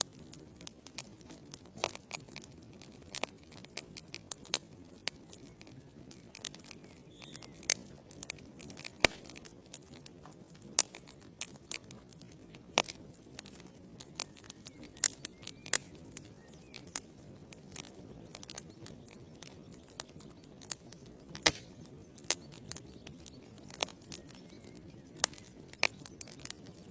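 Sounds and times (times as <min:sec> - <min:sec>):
logs crackling and popping: 0:00.0 - 0:26.9.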